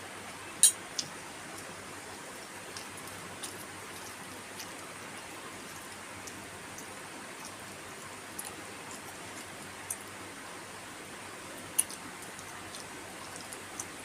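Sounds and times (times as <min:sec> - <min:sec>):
soft eating clicks: 0:00.6 - 0:10.2, 0:11.6 - 0:14.0.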